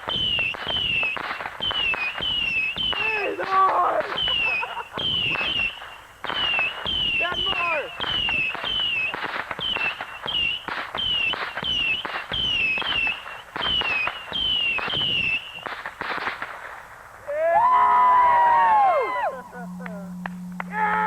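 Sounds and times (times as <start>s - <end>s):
small rockets whistling and popping: 0.0s - 21.0s.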